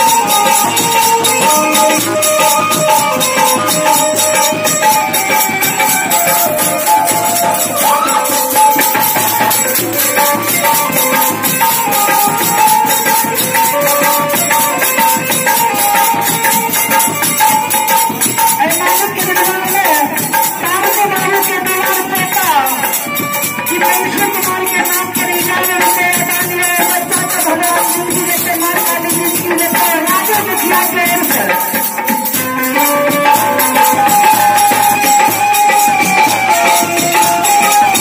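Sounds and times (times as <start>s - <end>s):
hand drum: 0.0s - 38.0s
harmonium melody: 0.0s - 38.0s
jingling percussion: 0.0s - 38.0s.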